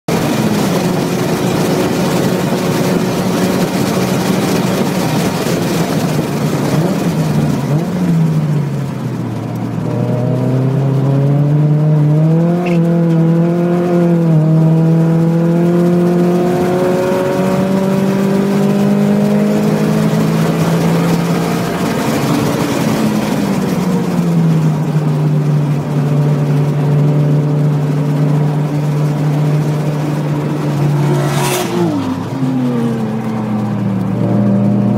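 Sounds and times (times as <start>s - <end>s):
car engine at racing speed: 0.0s - 34.9s.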